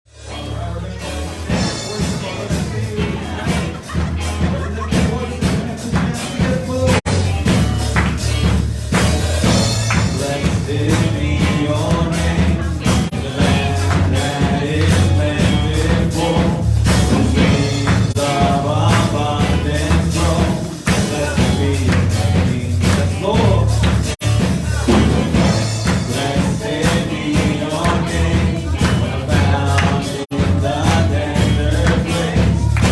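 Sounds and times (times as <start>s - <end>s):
band playing worship music: 0.2s - 32.9s
people singing: 1.5s - 7.0s, 8.9s - 32.9s.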